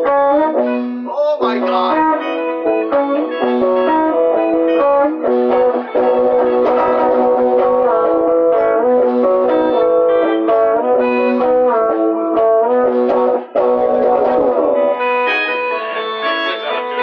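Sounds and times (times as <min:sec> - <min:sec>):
electric guitars playing: 0:00.0 - 0:17.0
held keyboard notes: 0:00.0 - 0:17.0.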